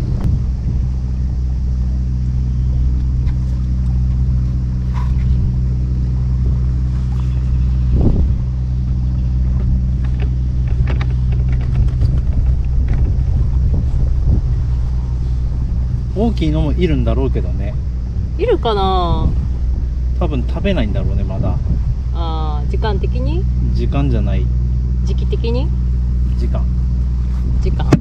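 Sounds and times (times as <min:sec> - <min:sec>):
low engine drone: 0:00.0 - 0:28.0
wind buffeting microphone: 0:00.0 - 0:28.0.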